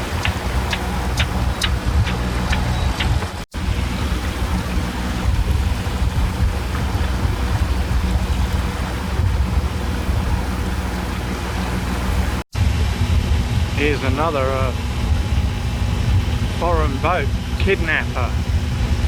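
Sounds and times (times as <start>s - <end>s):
boat motor droning: 0.0s - 19.0s
wind buffeting microphone: 0.0s - 19.0s.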